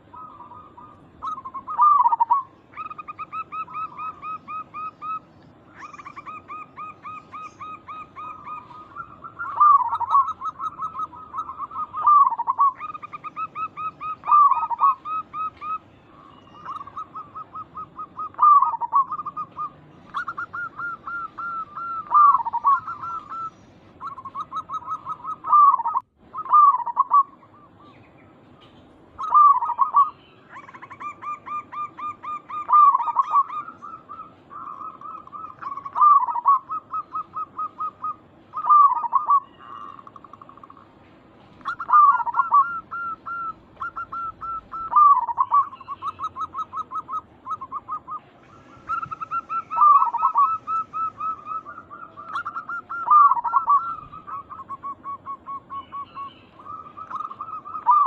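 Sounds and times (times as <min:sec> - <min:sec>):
higher-pitched bird notes: 0:00.0 - 0:40.9, 0:41.6 - 0:58.0
doves cooing: 0:00.0 - 0:58.0.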